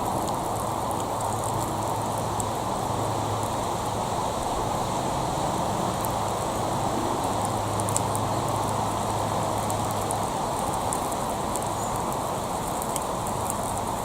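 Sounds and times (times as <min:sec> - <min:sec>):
gas torch flame blowing: 0:00.0 - 0:14.0
small crackles: 0:00.0 - 0:14.0.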